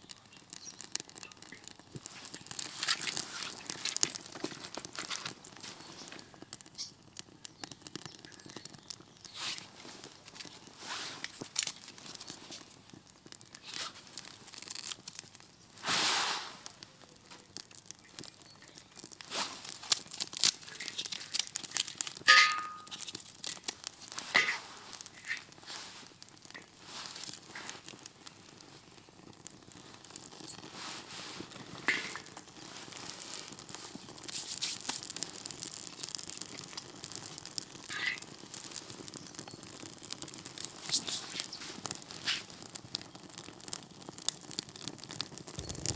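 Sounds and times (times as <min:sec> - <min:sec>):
fire snapping and crackling: 0:00.0 - 0:45.9
kindling crinkling and tearing: 0:00.0 - 0:45.9.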